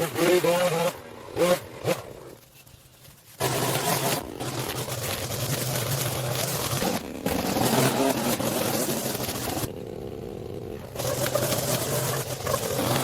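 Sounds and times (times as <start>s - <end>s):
small petrol engine running: 0.0s - 2.4s, 3.3s - 13.0s.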